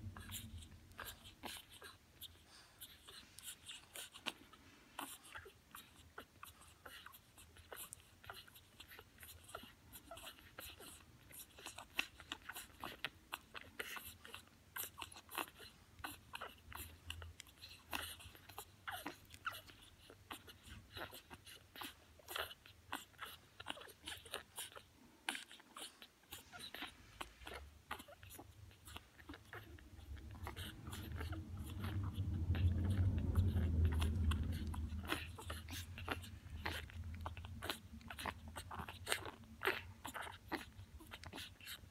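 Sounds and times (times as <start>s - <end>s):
puppies suckling: 0.0s - 41.9s.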